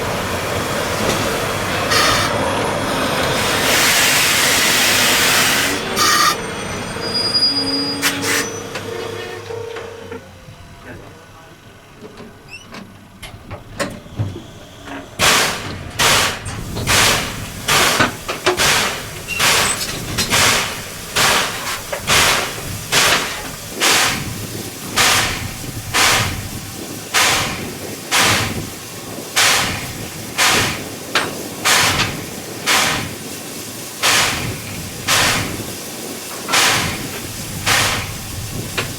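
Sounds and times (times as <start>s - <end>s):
steam locomotive puffing: 0.0s - 10.4s, 12.4s - 38.9s.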